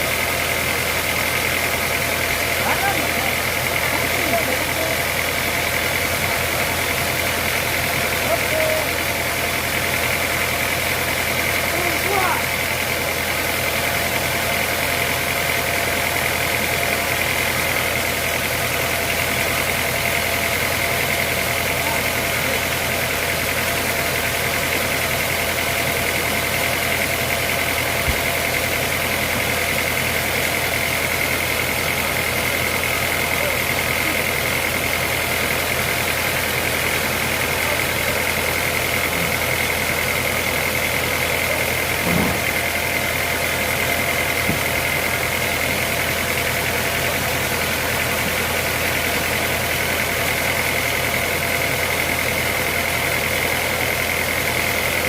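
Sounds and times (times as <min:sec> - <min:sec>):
sawmill machinery hum and whine: 0:00.0 - 0:55.0.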